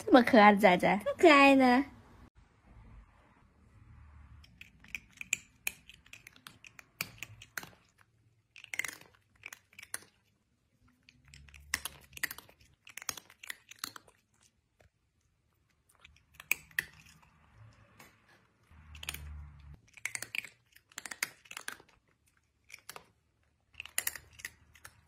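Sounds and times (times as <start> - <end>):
cat chewing: 4.4 - 25.0.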